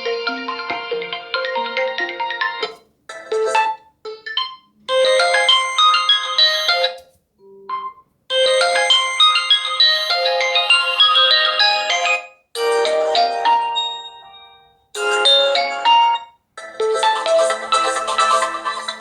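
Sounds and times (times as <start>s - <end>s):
melodic phone ringtones: 0.0s - 19.0s.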